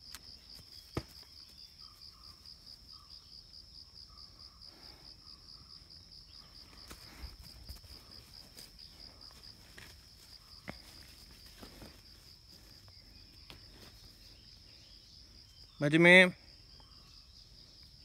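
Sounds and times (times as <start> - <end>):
insect chirping trill: 0.0 - 18.0.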